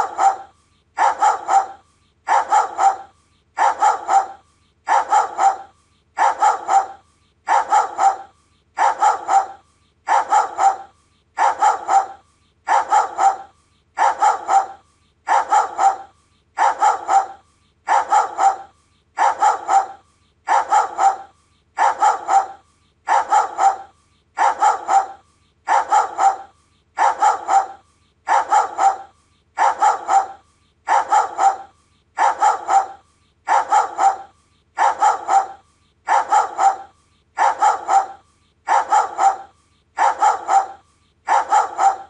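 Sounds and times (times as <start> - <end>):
dog barking: 0.0 - 42.0.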